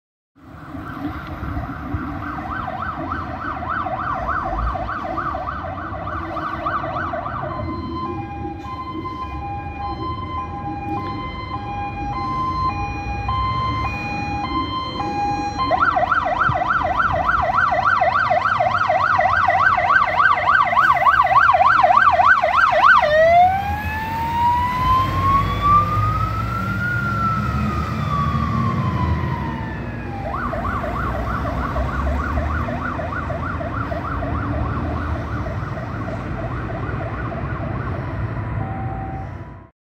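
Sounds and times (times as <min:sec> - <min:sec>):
fire truck siren: 0:00.4 - 0:39.7
diesel engine rumble: 0:04.1 - 0:39.6.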